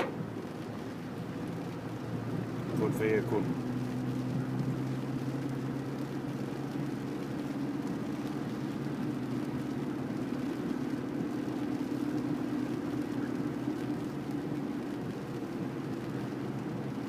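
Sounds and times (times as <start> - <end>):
car engine drone: 0.0 - 17.0
tyres hissing on wet road: 0.0 - 17.0.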